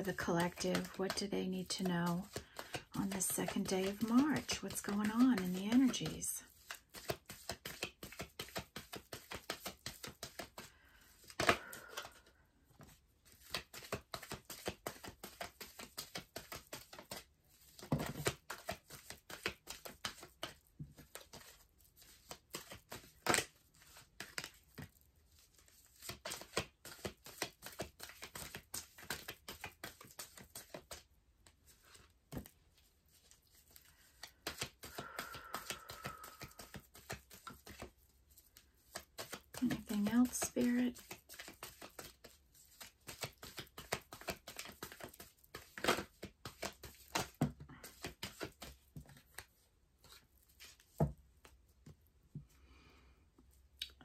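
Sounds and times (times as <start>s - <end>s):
cards being shuffled: 0.0s - 52.0s.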